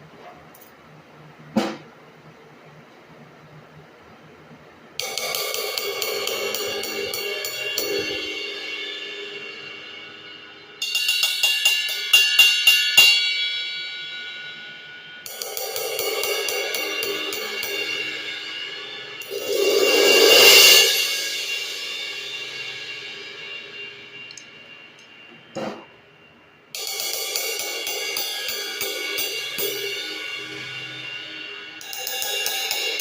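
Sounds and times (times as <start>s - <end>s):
cymbal strokes: 5.0s - 33.0s
ride cymbal ringing: 5.0s - 33.0s.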